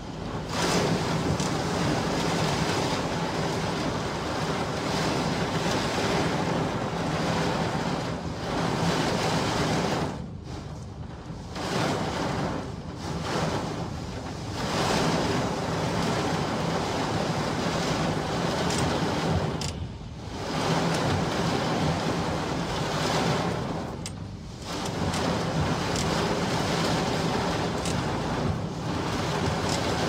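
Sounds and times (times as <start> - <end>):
rain on car glass: 0.0 - 30.0.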